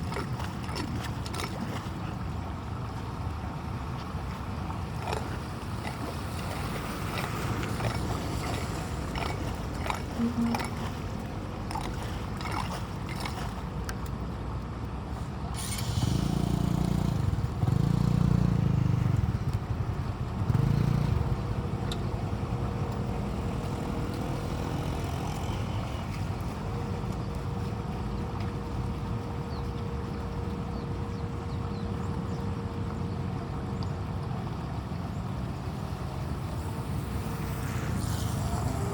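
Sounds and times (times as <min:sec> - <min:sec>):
low surges of water: 0:00.0 - 0:38.9
rain and running floodwater: 0:00.0 - 0:38.9.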